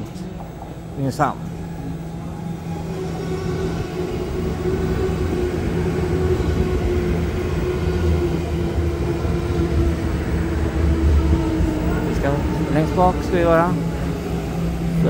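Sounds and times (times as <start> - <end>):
train motor whine: 0.0 - 15.0
wheels rumbling on rails: 0.0 - 15.0.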